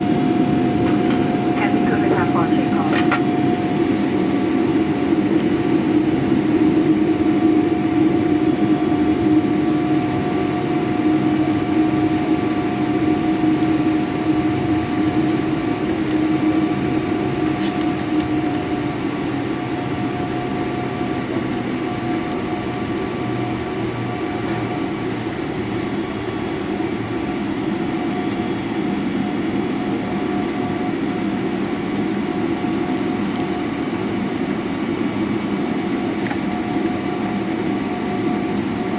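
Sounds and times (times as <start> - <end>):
airliner engine hum and rumble: 0.0 - 38.9.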